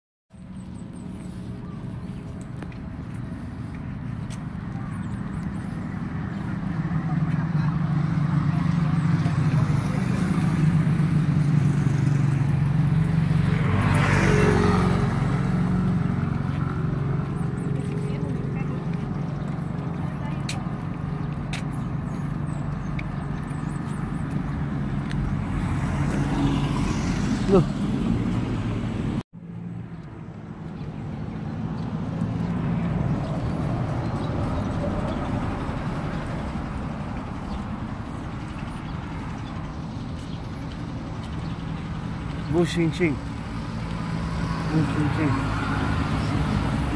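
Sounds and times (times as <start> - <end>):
low rumble of traffic: 0.3 - 46.9
motor vehicle passing: 0.4 - 46.9.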